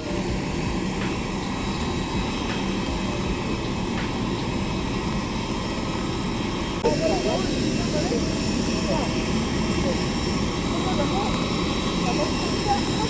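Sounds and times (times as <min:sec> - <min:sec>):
passenger plane engines droning: 0:00.0 - 0:13.0.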